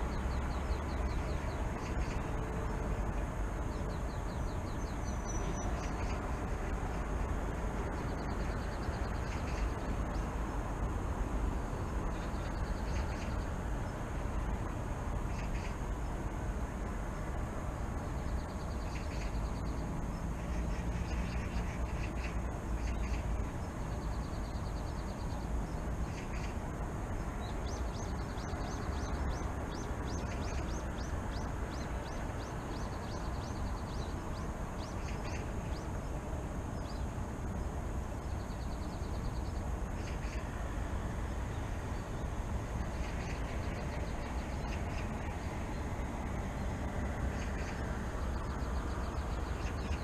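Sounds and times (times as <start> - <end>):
small birds singing: 0.0 - 11.0, 11.6 - 50.0
distant city traffic: 0.0 - 50.0.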